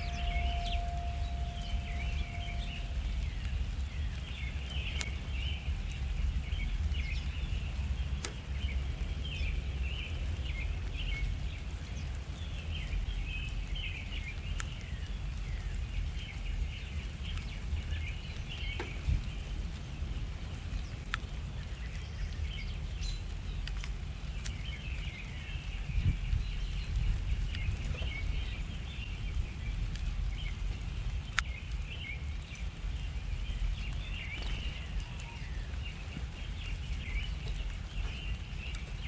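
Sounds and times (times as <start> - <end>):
low background rumble: 0.0 - 39.0
songbirds chirping and twittering: 0.0 - 39.0.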